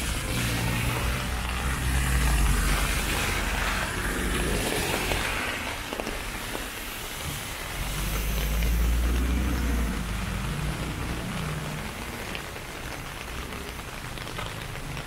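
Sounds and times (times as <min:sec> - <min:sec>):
passing vehicle engine rumble: 0:00.0 - 0:14.8
rain falling on street: 0:00.0 - 0:15.0.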